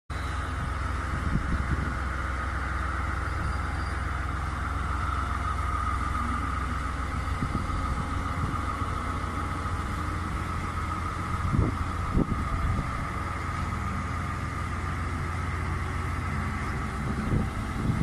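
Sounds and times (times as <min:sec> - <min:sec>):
locomotive diesel engine rumble: 0:00.1 - 0:18.0
steady higher hum: 0:00.2 - 0:18.0.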